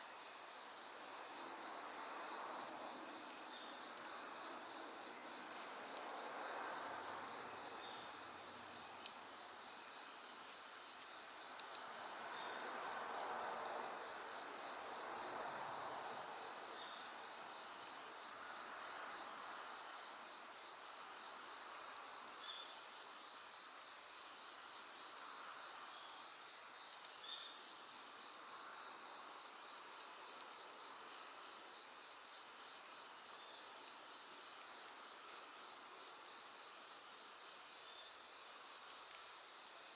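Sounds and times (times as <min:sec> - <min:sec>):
crickets trilling: 0:00.0 - 0:39.9
insect chirping: 0:00.0 - 0:39.9.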